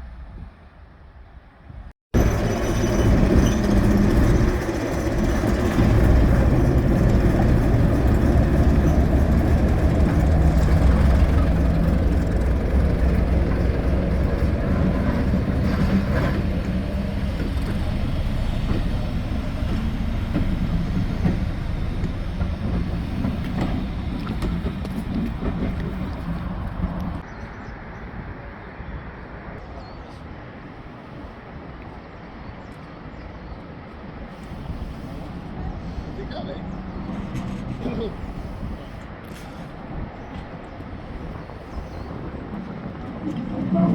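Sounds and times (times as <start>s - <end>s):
train wheels rumbling on rail: 2.2s - 27.3s, 33.8s - 43.9s.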